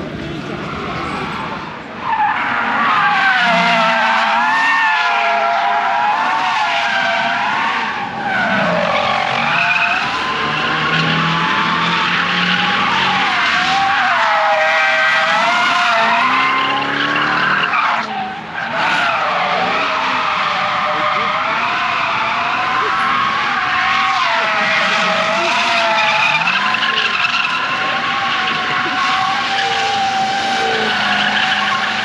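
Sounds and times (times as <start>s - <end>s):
car engine running hard: 0.0s - 32.0s
car tyres squealing: 0.0s - 32.0s.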